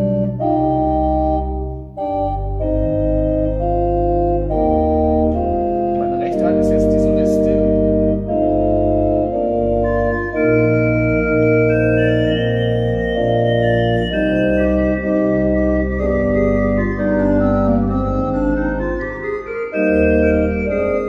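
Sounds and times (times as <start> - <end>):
pipe organ playing chorale: 0.0 - 21.0.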